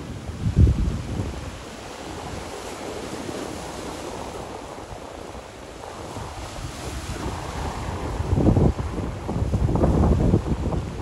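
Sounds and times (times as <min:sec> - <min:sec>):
sea waves washing in: 0:00.0 - 0:11.0
wind on microphone: 0:00.0 - 0:11.0.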